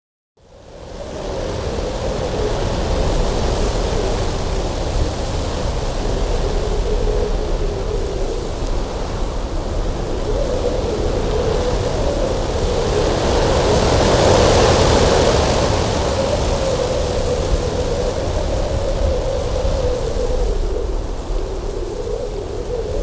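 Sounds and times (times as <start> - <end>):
wind blowing with whistling: 0.4 - 23.0.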